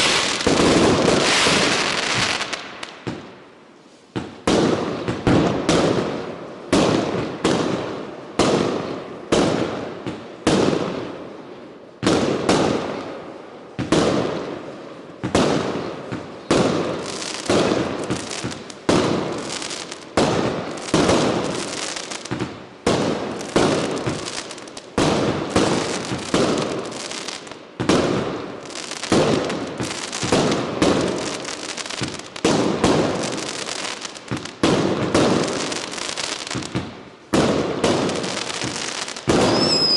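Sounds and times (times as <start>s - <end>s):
fireworks bangs: 0.0s - 3.3s, 4.1s - 11.2s, 12.0s - 39.9s.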